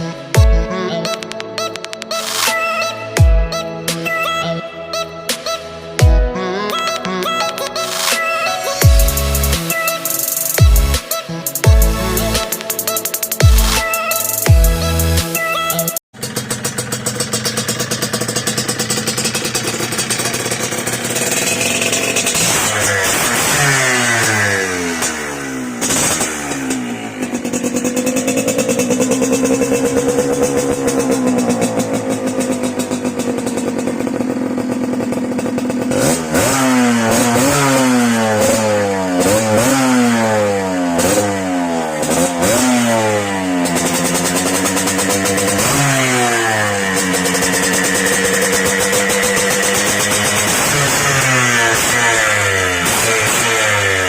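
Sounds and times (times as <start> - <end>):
two-stroke motorcycle engine revving: 7.9 - 54.0.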